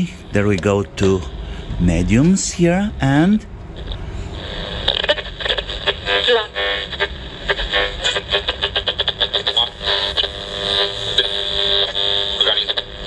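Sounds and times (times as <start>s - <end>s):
radio broadcast through small speaker: 0.0s - 13.0s.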